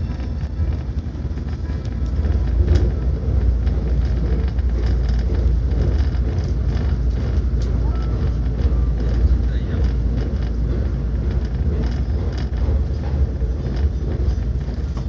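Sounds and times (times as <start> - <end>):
light clicks and rattles: 0.0 - 15.0
wheels rumbling on rail: 0.0 - 15.0.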